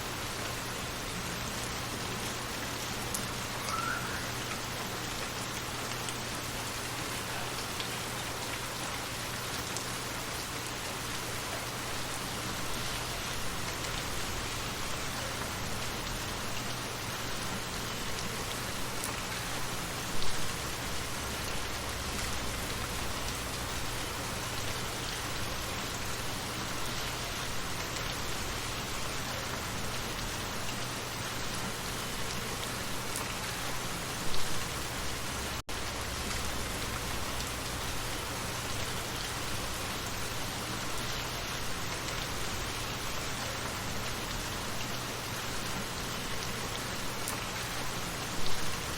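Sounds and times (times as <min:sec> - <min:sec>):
light rain pattering: 0:00.0 - 0:48.9.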